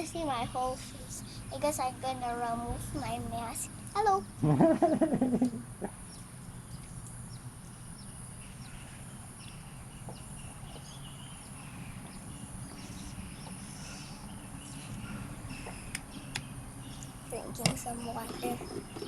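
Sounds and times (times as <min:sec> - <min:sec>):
birds chirping: 0:00.0 - 0:19.0
low background hum: 0:00.0 - 0:19.0.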